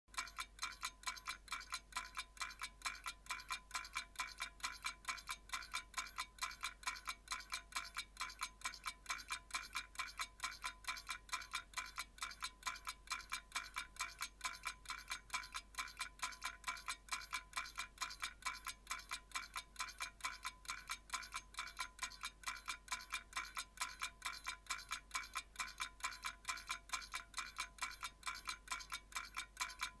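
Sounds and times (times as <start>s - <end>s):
clock ticking: 0.1s - 30.0s.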